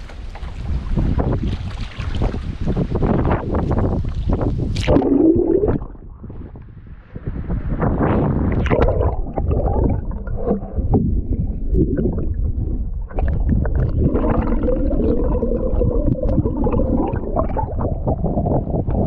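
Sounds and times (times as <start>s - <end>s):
muffled underwater water rushing: 0.0s - 19.0s.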